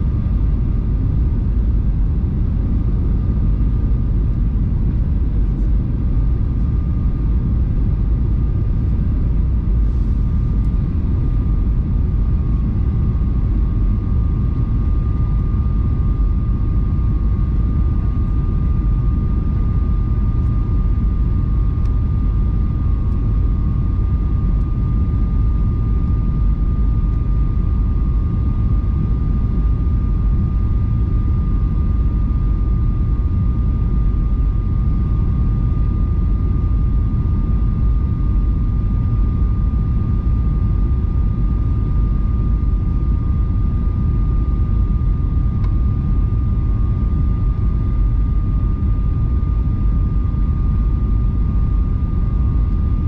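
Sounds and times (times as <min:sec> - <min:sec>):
high jet engine whine: 0:00.0 - 0:53.0
jet engine and airflow roar: 0:00.0 - 0:53.0.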